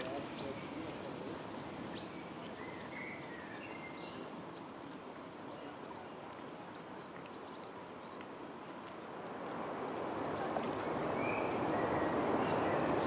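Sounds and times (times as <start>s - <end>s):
bird calls and chirps: 0.0s - 13.0s
steady outdoor hiss: 0.0s - 13.0s.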